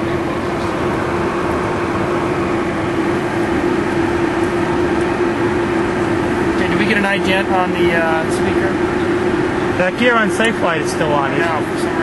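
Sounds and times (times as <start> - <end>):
jet cockpit airflow and engine noise: 0.0 - 12.0
steady hum: 0.0 - 12.0.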